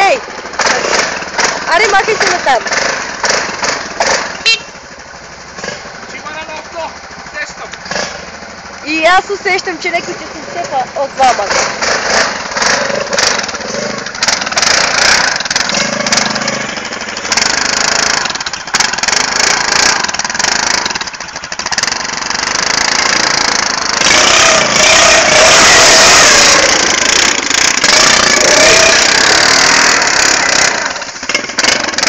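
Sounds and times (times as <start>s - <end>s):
atv engine revving: 0.0s - 32.0s.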